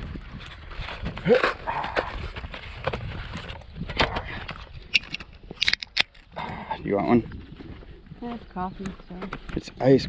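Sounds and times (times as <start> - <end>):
footsteps: 0.0 - 10.0.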